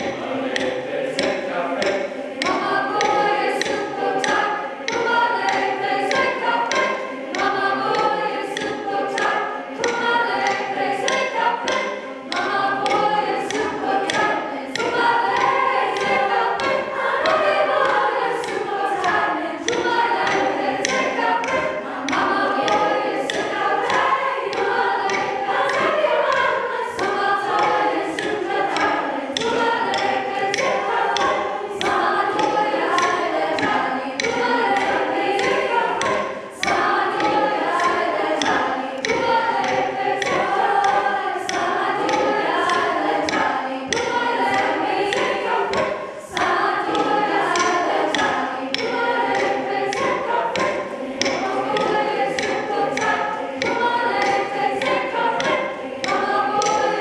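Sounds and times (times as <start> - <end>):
choir singing a cappella: 0.0 - 57.0
sharp percussive hits: 0.0 - 57.0.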